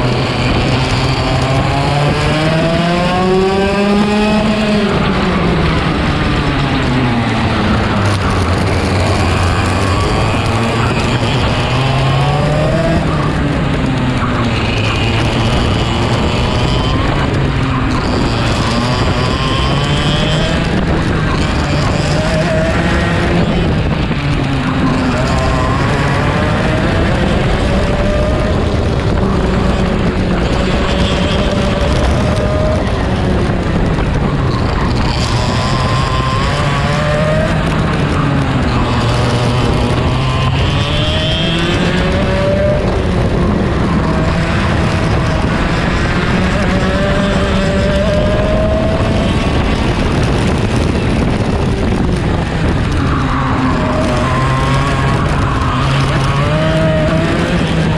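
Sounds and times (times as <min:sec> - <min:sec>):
racing kart engine: 0:00.0 - 0:57.9
wind rumble on microphone: 0:00.0 - 0:57.9.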